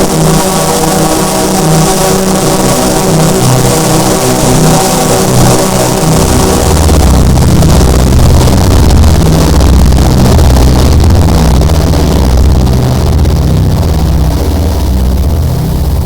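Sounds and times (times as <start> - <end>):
deep drone music: 0.0 - 16.0
distorted hiss: 0.0 - 16.0.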